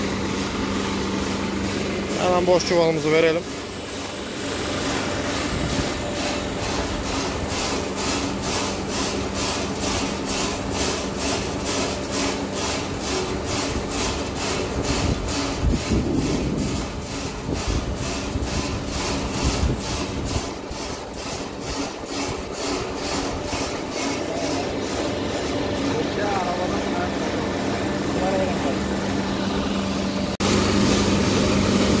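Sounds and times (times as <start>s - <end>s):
machine running with rasping hiss: 0.0s - 32.0s.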